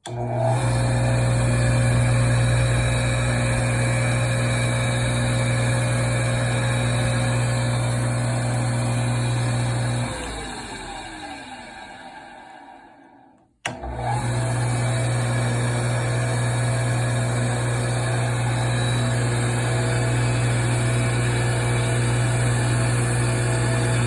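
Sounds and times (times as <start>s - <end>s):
lathe motor humming: 0.1s - 24.0s
lathe spinning down: 0.1s - 24.0s.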